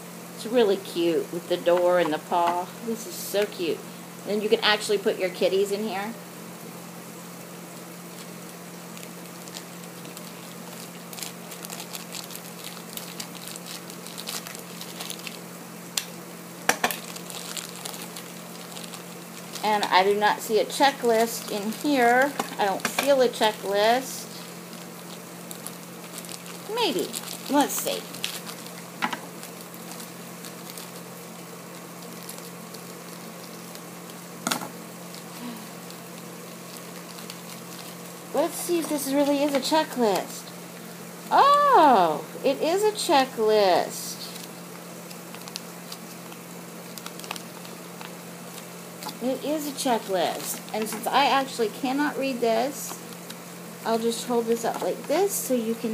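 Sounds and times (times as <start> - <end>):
steady low hum: 0.0 - 55.9
foil packet crinkling: 7.4 - 55.9.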